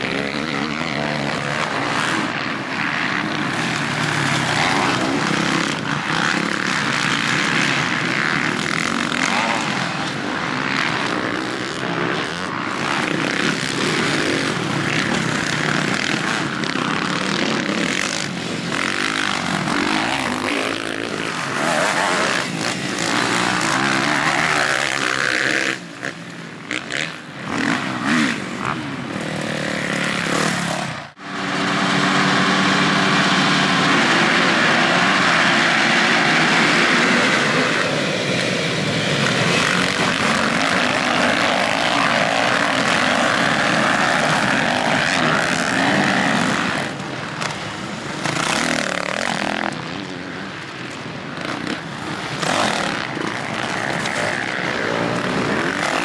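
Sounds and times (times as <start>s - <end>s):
many engines together: 0.0s - 56.0s
motocross bike engines revving: 0.0s - 56.0s.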